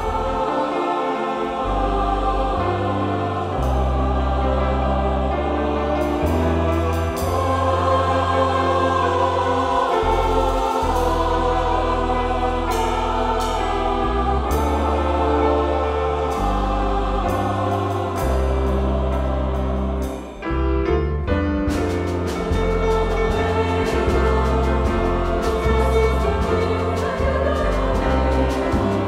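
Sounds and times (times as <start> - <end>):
choir singing: 0.0 - 29.0
sustained low bass notes: 1.4 - 29.0.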